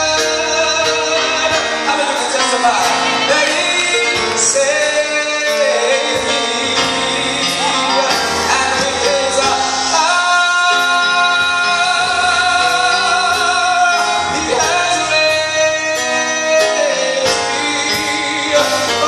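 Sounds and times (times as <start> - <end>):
instrumental accompaniment: 0.0 - 19.0
man singing into microphone: 0.0 - 19.0.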